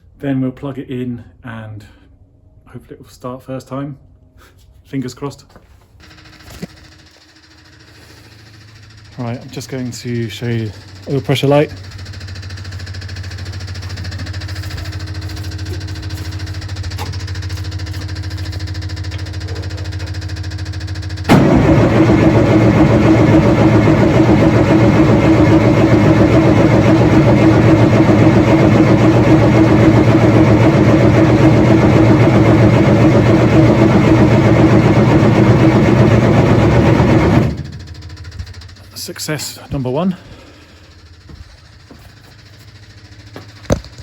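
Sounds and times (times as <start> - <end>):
engine cranking on starter motor: 6.0 - 44.0.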